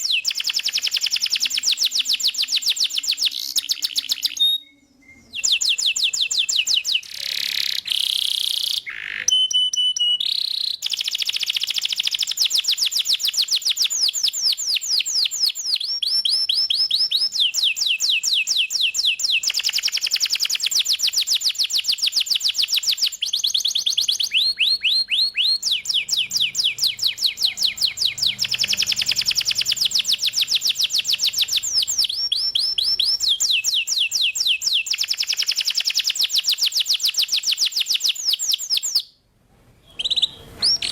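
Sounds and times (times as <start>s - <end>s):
canary singing fast trills: 0.0s - 39.2s, 39.8s - 40.9s.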